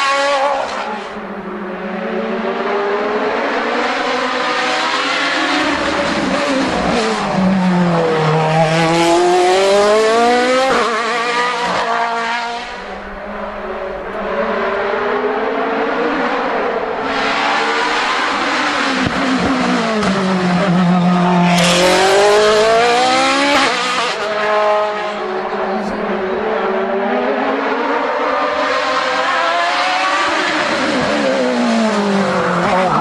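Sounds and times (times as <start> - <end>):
race cars accelerating past: 0.0 - 33.0.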